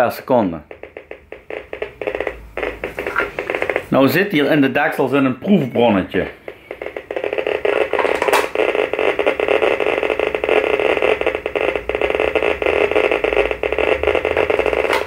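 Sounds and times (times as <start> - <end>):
geiger counter clicking rapidly: 0.6 - 4.5, 6.3 - 15.0.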